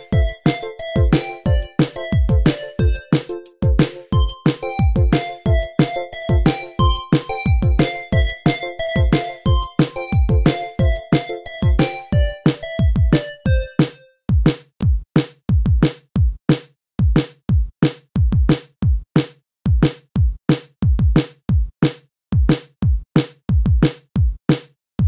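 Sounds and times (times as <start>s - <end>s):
drum machine beat: 0.0s - 24.7s.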